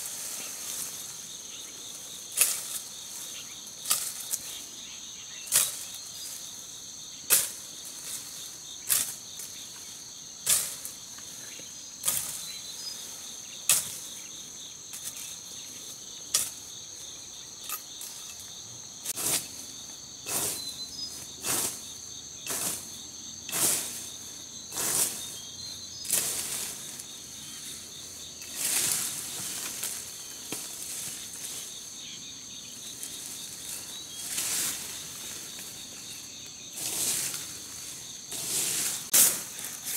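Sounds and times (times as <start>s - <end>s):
insect chorus droning: 0.0s - 39.9s
leaves rustling: 0.0s - 39.9s.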